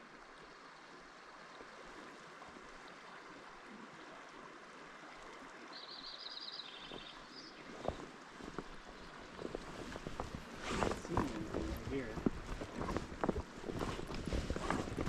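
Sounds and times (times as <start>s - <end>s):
flowing river: 0.0s - 15.0s.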